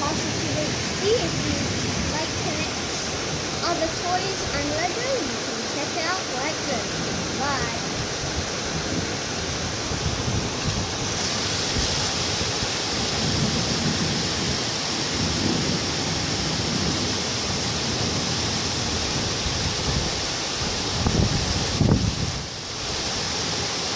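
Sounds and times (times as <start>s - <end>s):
heavy rain and floodwater running: 0.0s - 23.9s.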